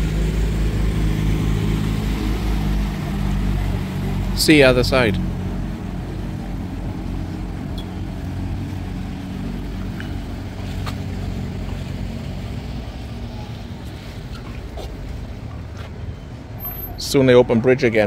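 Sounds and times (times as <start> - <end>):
motorboat engine humming: 0.0 - 16.6.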